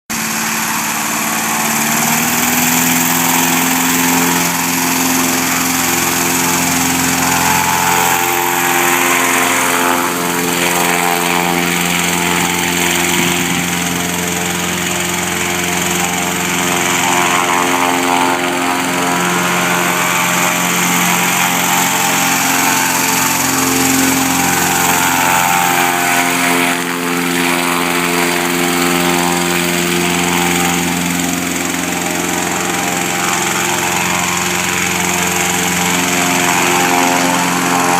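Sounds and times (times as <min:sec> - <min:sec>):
small airboat engine running: 0:00.1 - 0:37.9.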